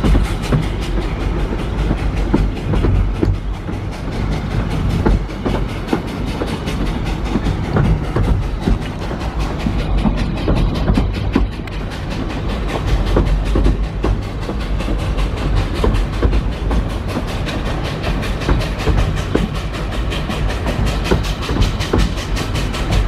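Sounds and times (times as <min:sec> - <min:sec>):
steam locomotive exhaust beats: 0:00.0 - 0:23.0
train wheels rumbling on rails: 0:00.0 - 0:23.0.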